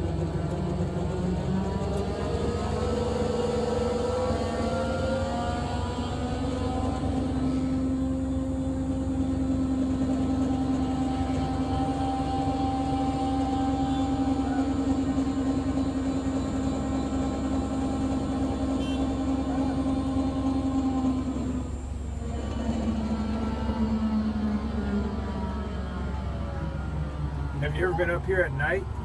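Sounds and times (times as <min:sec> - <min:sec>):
crane motor hum with whine: 0:00.0 - 0:29.0.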